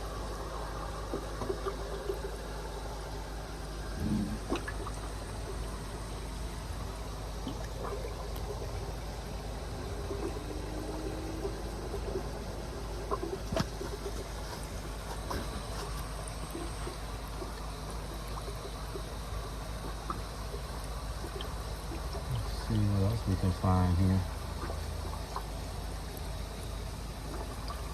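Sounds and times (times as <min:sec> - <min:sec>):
low hum: 0:00.0 - 0:27.9
water trickling and splashing: 0:00.0 - 0:27.9.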